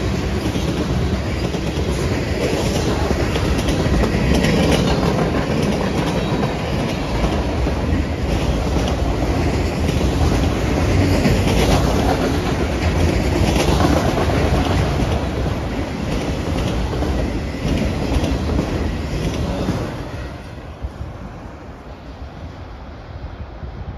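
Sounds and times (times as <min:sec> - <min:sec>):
steel wheels rumbling on rail: 0:00.0 - 0:23.9
wheels clicking over rail joints: 0:00.2 - 0:20.0.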